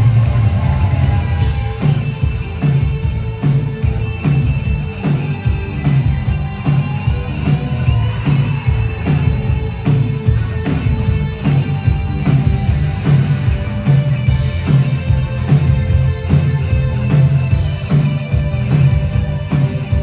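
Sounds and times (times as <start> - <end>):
drums fast beat: 0.0 - 20.0
electric guitar: 0.0 - 20.0
rock band playing live: 0.0 - 20.0.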